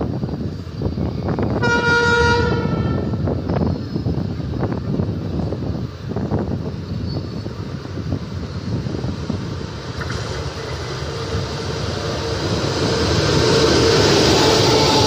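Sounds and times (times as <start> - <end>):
approaching train rushing hum: 0.0 - 15.0
wind rumble on microphone: 0.0 - 15.0.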